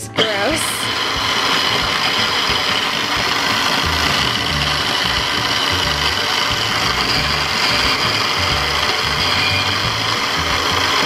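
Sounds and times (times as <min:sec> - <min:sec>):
food chopper motor whine: 0:00.0 - 0:11.0.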